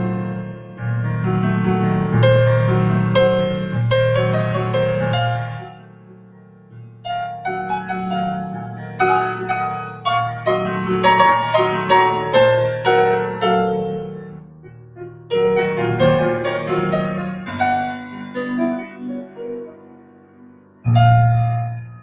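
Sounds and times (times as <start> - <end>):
solo grand piano chords: 0.0 - 22.0.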